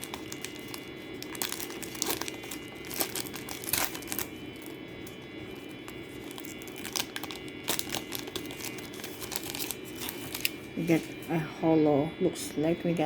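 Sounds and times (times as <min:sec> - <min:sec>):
wrapper being torn and crinkled: 0:00.0 - 0:11.1.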